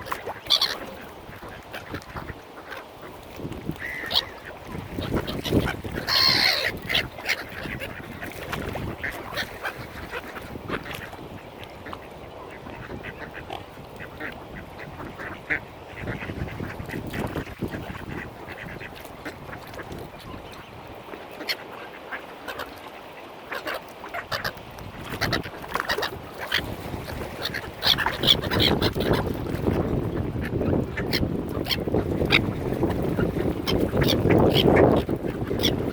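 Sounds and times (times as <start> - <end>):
ducks quacking: 0.0 - 35.9
waterfowl calls: 0.0 - 35.9.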